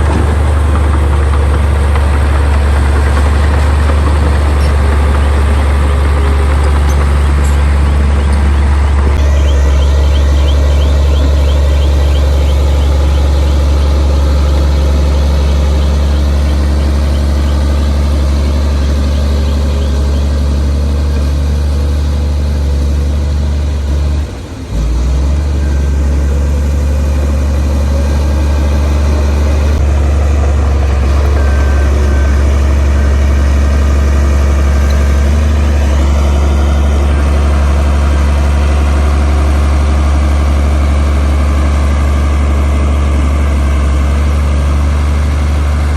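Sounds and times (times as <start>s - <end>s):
bulldozer diesel engine humming: 0.0s - 45.9s.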